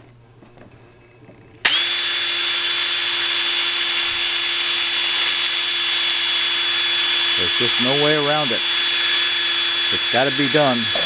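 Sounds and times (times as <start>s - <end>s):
wire brush power tool whining: 1.6s - 11.0s.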